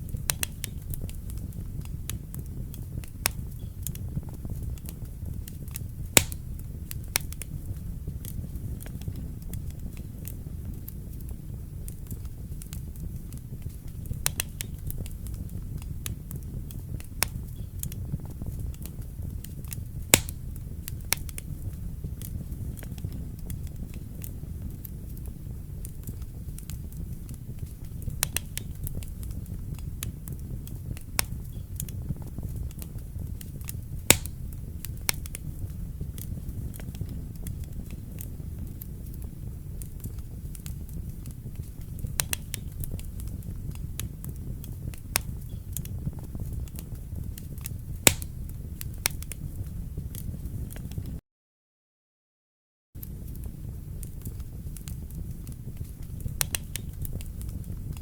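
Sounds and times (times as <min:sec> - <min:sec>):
burning logs crackling and popping: 0:00.0 - 0:51.2, 0:53.0 - 0:58.0
fire flame rumble: 0:00.0 - 0:51.2, 0:53.0 - 0:58.0.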